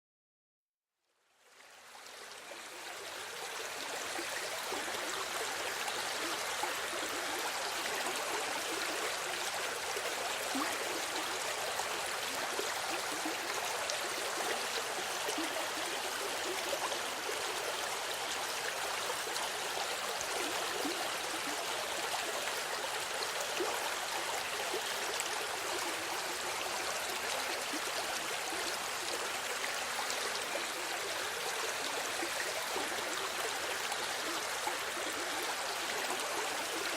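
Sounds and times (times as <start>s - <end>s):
river flowing over stones: 1.5s - 36.9s.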